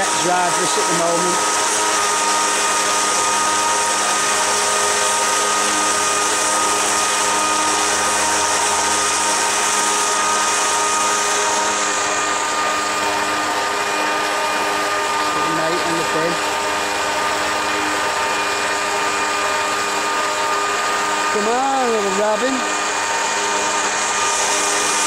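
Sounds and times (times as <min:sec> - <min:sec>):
motor and impeller whine: 0:00.0 - 0:25.0.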